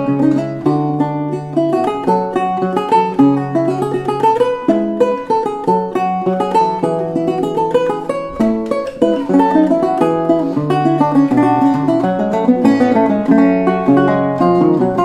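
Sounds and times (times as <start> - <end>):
lute playing: 0.0 - 15.0.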